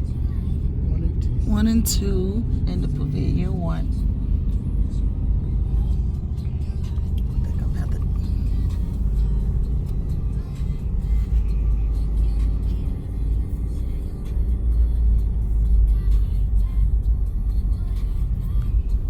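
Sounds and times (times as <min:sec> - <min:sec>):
music: 0:00.0 - 0:19.0
vehicle rumble from inside cab: 0:00.0 - 0:19.0.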